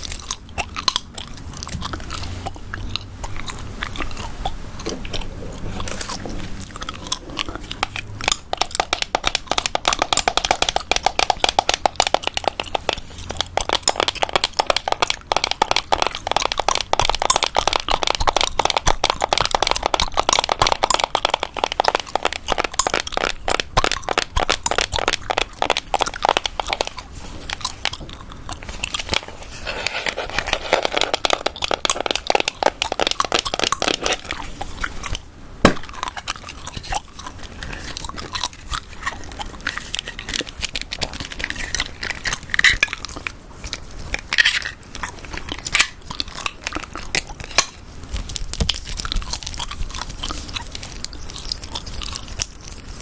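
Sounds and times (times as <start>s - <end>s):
gum chewing: 0.0s - 53.0s.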